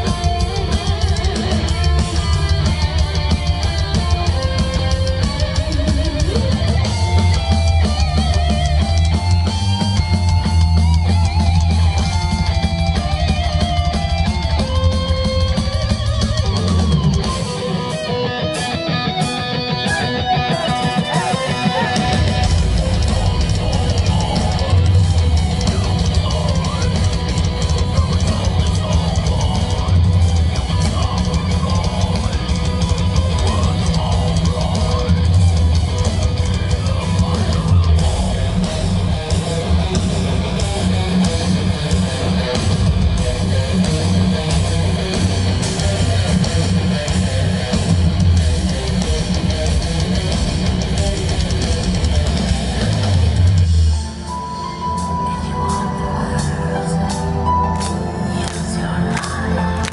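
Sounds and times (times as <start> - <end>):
distorted electric guitars: 0.0 - 59.9
heavy fast drums: 0.0 - 59.9.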